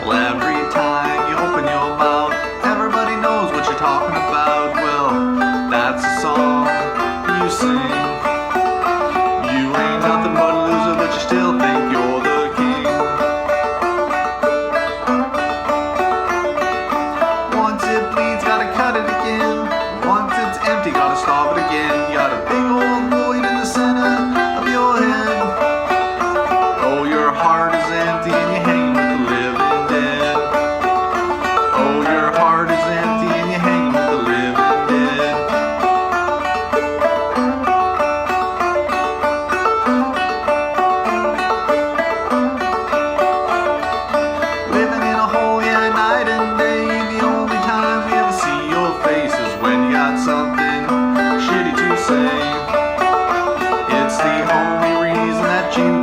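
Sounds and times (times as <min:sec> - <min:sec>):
banjo plucked notes: 0:00.0 - 0:56.0.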